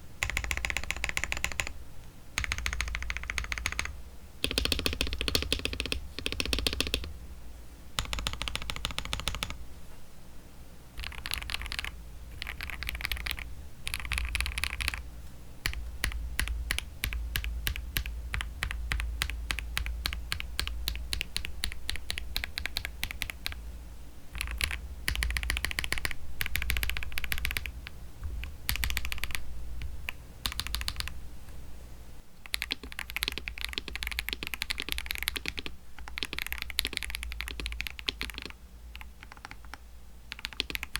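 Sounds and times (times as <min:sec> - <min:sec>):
mechanical keyboard typing: 0:00.2 - 0:01.8, 0:02.4 - 0:07.1, 0:08.0 - 0:09.6, 0:11.0 - 0:15.0, 0:15.6 - 0:23.6, 0:24.4 - 0:31.2, 0:32.4 - 0:40.9.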